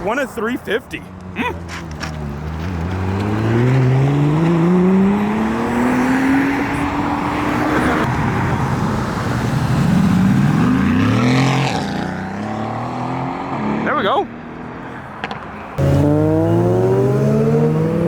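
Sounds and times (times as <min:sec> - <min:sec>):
car engine accelerating hard: 0:01.2 - 0:14.2, 0:15.8 - 0:18.0.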